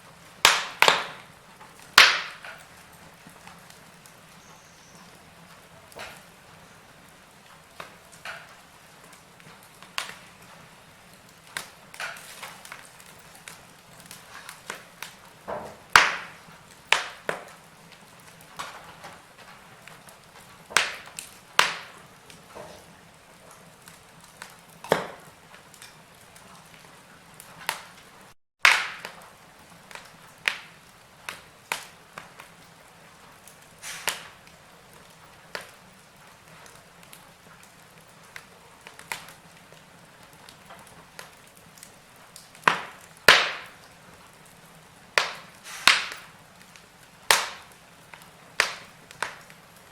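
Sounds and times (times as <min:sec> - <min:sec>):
faint fire hiss: 0:00.0 - 0:49.9
wood fire crackling and popping: 0:00.0 - 0:49.9.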